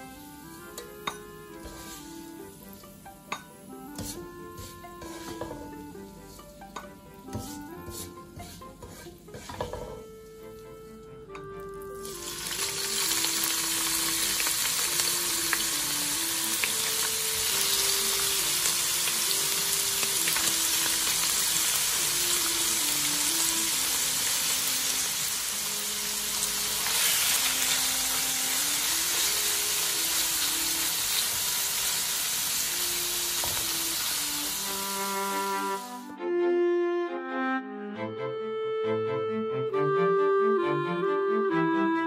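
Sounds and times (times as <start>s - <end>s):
bacon sizzling in oil: 0.0s - 9.8s, 11.7s - 35.8s.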